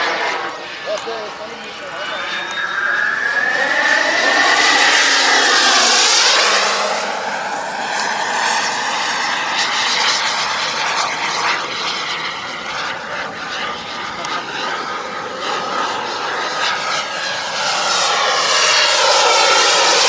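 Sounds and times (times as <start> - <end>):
model jet whine flying past: 0.0 - 20.0.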